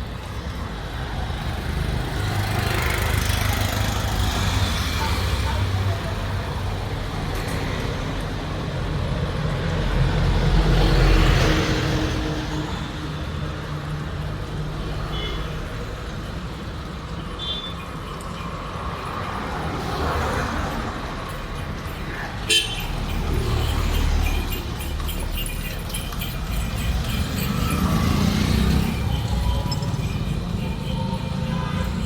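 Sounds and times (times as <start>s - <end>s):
motor vehicle noise: 0.0s - 32.0s.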